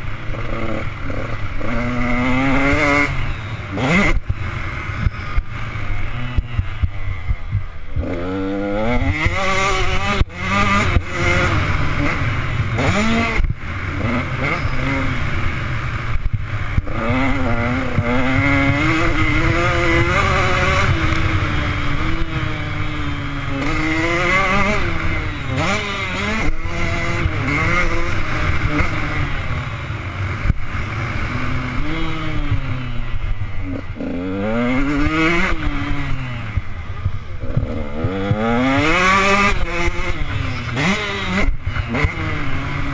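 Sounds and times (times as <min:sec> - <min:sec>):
motocross engine revving: 0:00.0 - 0:42.9.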